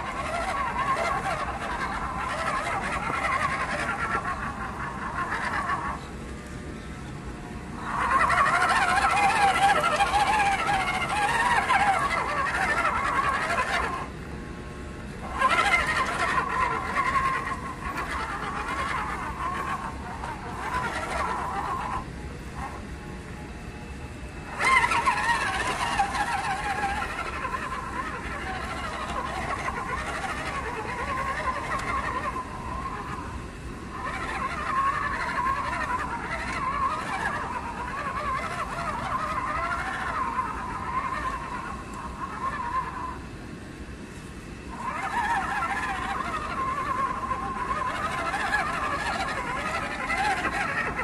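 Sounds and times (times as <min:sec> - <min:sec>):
electric motor whining: 0:00.0 - 0:43.2.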